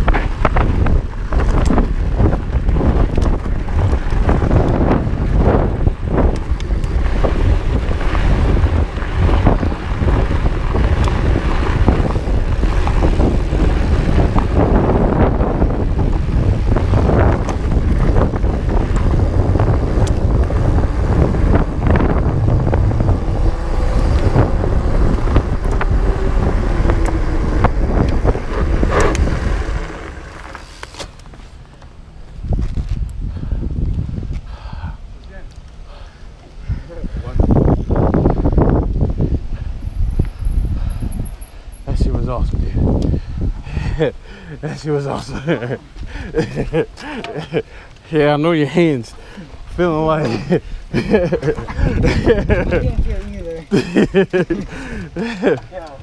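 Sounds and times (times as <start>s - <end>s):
bike rumbling on dirt trail: 0.0s - 56.0s
wind buffeting microphone: 0.0s - 56.0s.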